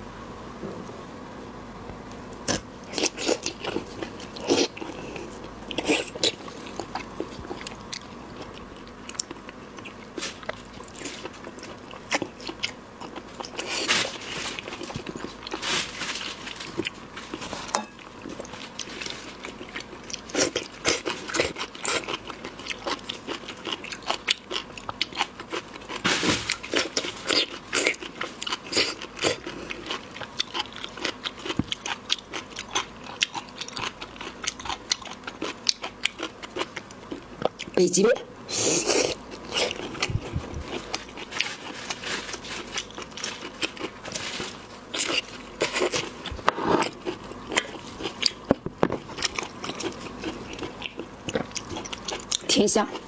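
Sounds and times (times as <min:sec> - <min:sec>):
seafood crunching and chewing: 0:02.4 - 0:37.8, 0:38.5 - 0:53.0.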